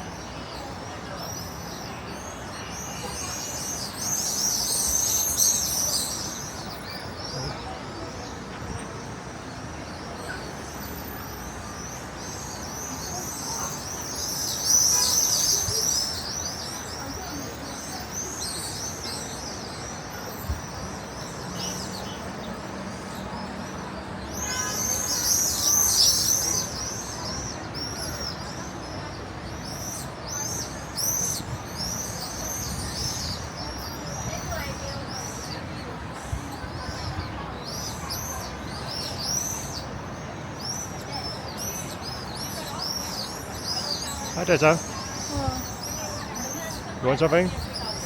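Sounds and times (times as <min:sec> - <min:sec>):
flock of small birds chirping: 0:00.0 - 0:48.0.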